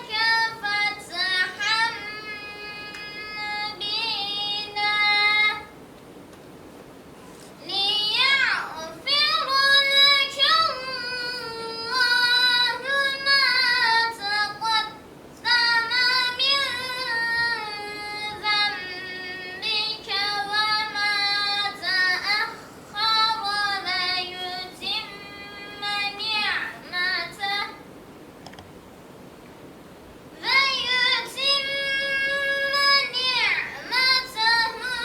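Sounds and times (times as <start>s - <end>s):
boy chanting melodically: 0.0s - 5.8s, 7.6s - 27.8s, 30.4s - 35.0s.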